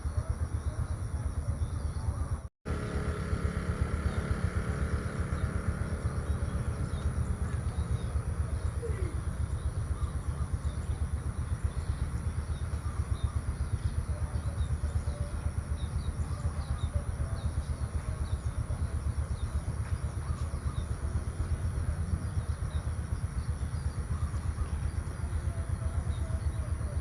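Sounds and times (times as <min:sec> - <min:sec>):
low fluttering rumble: 0:00.0 - 0:27.0
small birds chirping: 0:00.0 - 0:27.0.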